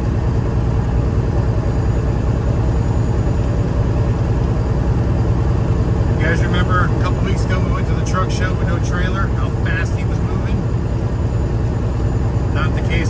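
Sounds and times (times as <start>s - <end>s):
road noise: 0.0s - 13.0s
truck diesel engine droning: 0.0s - 13.0s.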